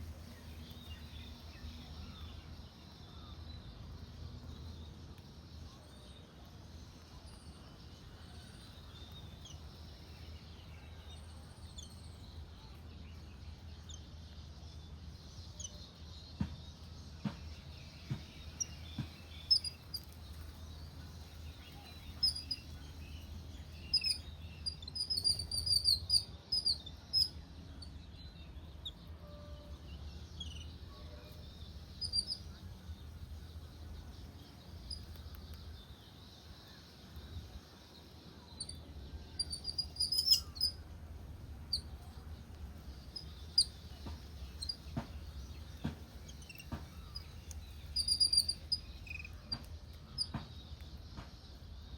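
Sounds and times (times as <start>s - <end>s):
low background hum: 0.0s - 51.9s
songbirds chirping: 0.0s - 51.9s.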